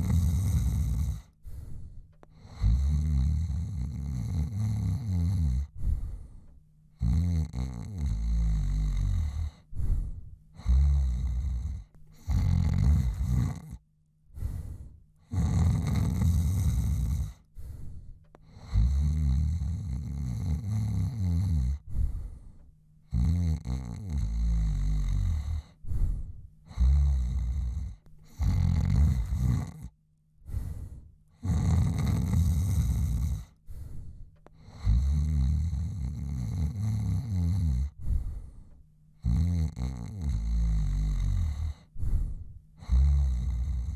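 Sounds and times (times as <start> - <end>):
man snoring: 0.0 - 1.6, 2.2 - 13.8, 14.4 - 17.8, 18.4 - 22.5, 23.1 - 38.5, 39.2 - 43.9.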